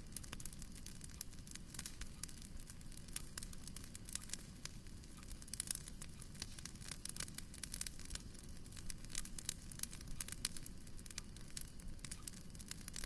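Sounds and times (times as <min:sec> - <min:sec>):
wood fire crackling in fireplace: 0:00.0 - 0:13.0.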